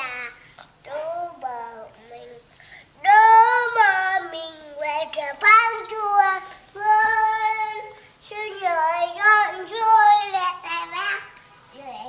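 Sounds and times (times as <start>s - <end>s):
toddler singing: 0.0s - 12.0s.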